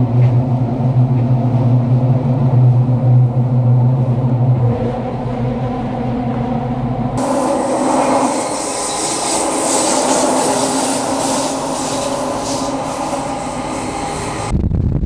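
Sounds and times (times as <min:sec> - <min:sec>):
railcar running noise: 0:00.0 - 0:14.6.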